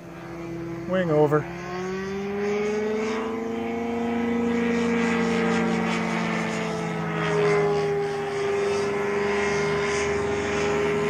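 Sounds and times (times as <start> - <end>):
propeller airplane droning overhead: 0.0 - 11.0.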